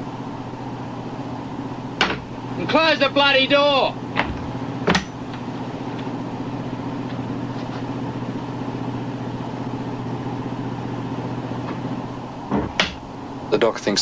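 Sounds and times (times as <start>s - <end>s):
steady engine drone: 0.0s - 14.0s.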